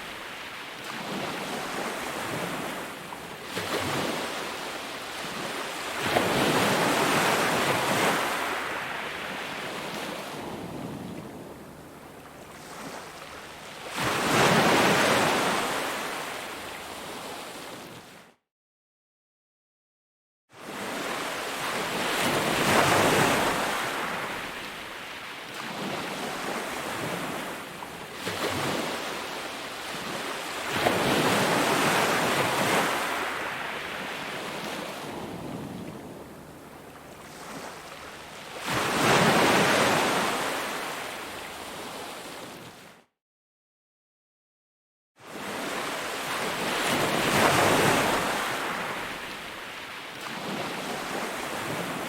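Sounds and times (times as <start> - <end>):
ocean waves breaking: 0.0 - 16.4, 20.7 - 42.6, 45.3 - 52.0.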